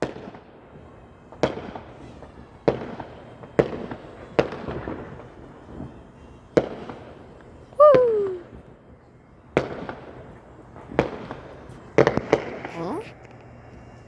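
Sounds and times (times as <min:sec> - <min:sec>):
fireworks bangs: 0:00.0 - 0:08.7, 0:09.4 - 0:13.4.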